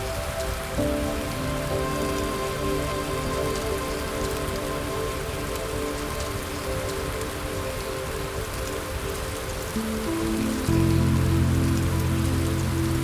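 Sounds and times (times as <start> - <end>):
soft music pad: 0.0 - 13.0
steady rain: 0.0 - 13.0.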